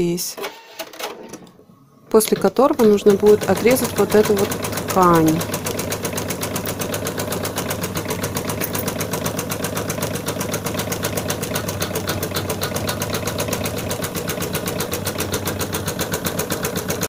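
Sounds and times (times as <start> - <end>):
embroidery machine stitching: 0.4 - 1.5, 2.2 - 17.0.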